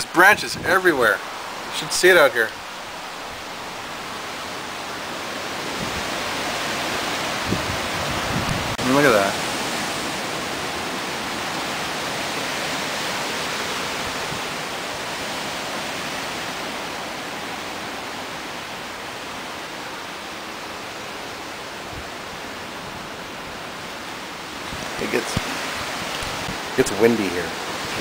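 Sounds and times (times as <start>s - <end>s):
strong wind blowing: 0.0s - 20.0s, 20.7s - 28.0s.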